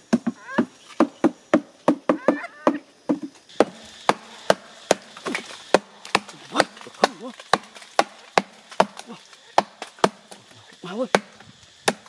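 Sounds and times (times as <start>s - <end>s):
hatchet chopping tree trunk: 0.0s - 12.0s.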